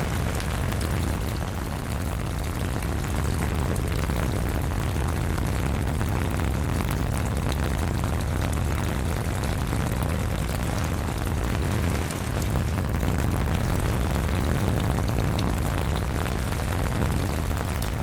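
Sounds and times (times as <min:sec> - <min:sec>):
heavy rain: 0:00.0 - 0:18.0
low rumble: 0:00.0 - 0:18.0
raindrops ticking on umbrella: 0:00.0 - 0:18.0.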